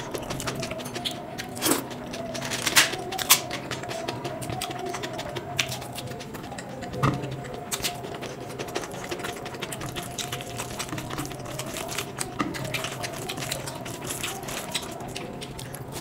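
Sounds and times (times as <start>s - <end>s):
wet chewing: 0.0s - 16.0s.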